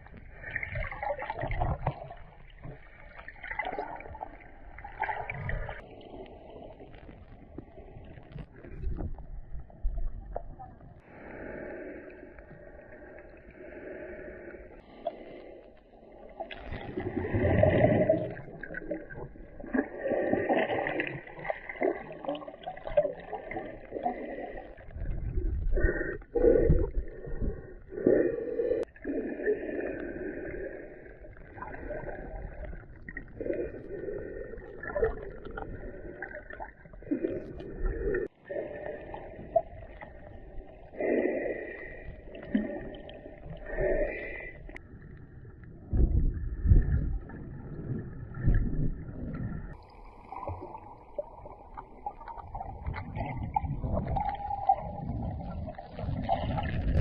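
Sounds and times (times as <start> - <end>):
muffled underwater sloshing: 0.0 - 57.0.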